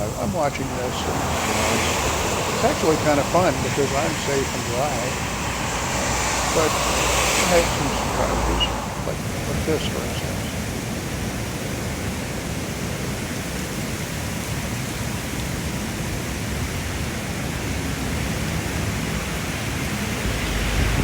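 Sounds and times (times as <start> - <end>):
heavy rain pouring: 0.0 - 14.6, 18.4 - 21.0.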